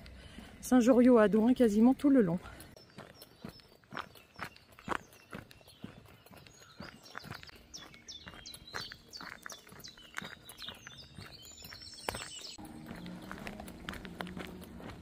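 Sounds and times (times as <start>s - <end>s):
footsteps on gravel: 0.0s - 15.0s
songbird chirping: 0.0s - 15.0s.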